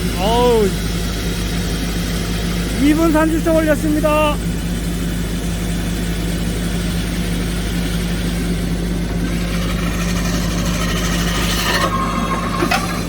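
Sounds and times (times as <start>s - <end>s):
excavator engine humming: 0.0s - 13.0s
hydraulic rock drill boring: 0.0s - 13.0s.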